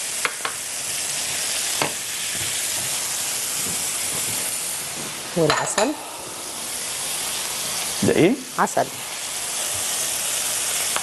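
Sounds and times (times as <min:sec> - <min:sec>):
onions sizzling in frying pan: 0:00.0 - 0:11.0.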